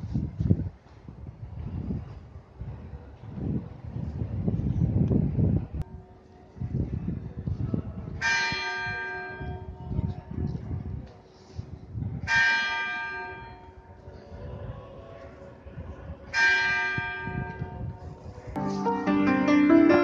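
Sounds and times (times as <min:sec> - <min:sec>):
wind rumbling on microphone: 0:00.0 - 0:12.6, 0:13.4 - 0:18.6.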